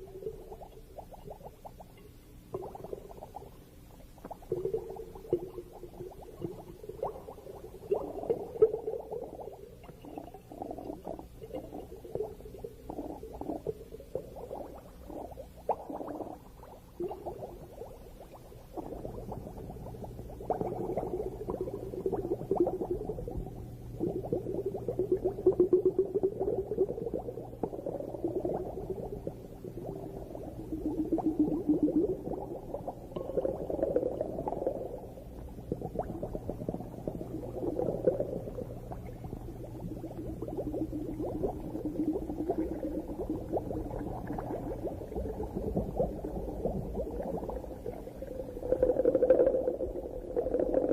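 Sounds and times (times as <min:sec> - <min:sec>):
faint low hum: 0:00.0 - 0:50.9
underwater bubbling and gurgling: 0:00.0 - 0:50.9.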